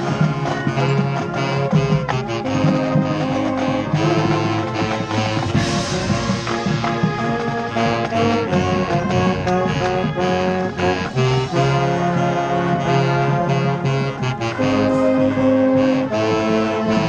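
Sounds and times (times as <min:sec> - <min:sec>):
marching band playing: 0:00.0 - 0:17.0
saxophone close by: 0:00.0 - 0:17.0.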